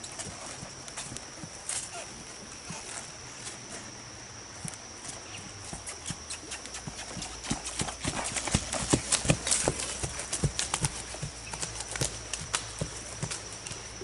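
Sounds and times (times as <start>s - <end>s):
horse hoofbeats on dirt and leaves: 0.0s - 14.0s.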